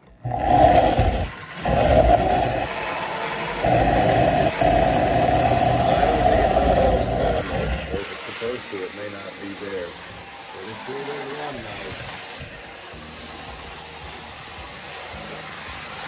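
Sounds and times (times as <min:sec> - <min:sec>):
toy train motor humming: 0:00.0 - 0:16.0.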